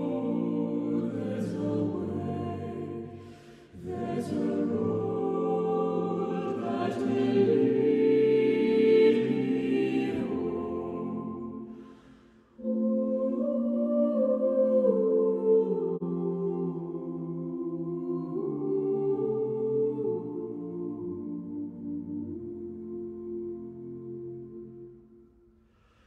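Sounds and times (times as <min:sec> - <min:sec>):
a cappella ensemble singing: 0:00.0 - 0:25.2.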